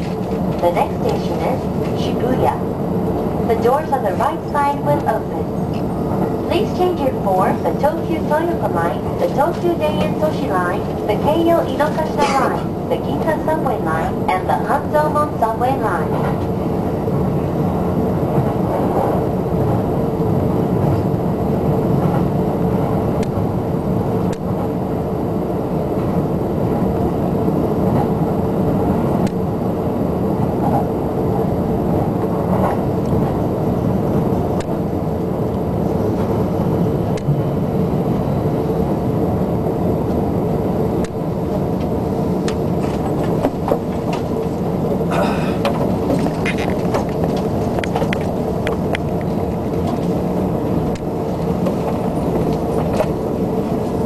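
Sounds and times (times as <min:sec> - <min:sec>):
constant hum: 0:00.0 - 0:54.0
train wheels rumbling on rails: 0:00.0 - 0:54.0.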